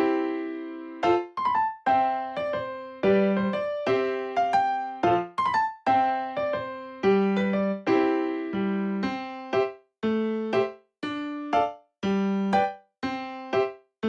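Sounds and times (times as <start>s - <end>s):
slow keyboard tune: 0.0s - 5.5s, 6.3s - 13.7s.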